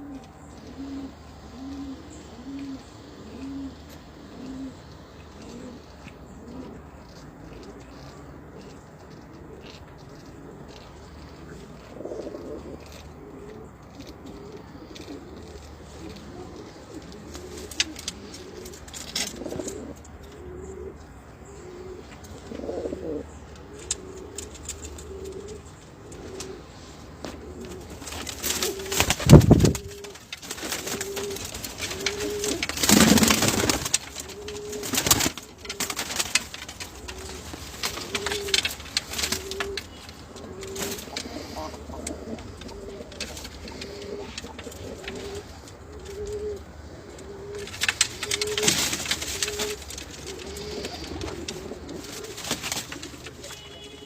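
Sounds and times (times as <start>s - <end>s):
pigeons cooing: 0.0s - 54.0s
rustling: 0.0s - 54.0s.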